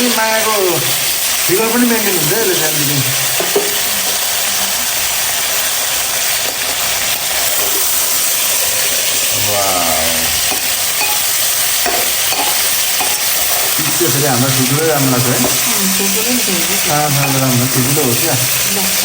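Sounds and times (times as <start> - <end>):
meat sizzling in a pan: 0.0 - 19.0
stirring in a pan: 0.1 - 19.0.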